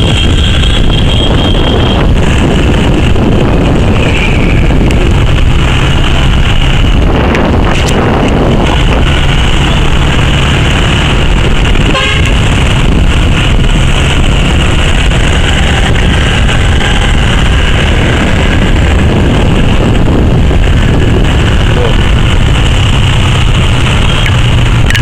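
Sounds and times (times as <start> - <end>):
road noise: 0.0 - 25.0
wind buffeting microphone: 0.0 - 25.0.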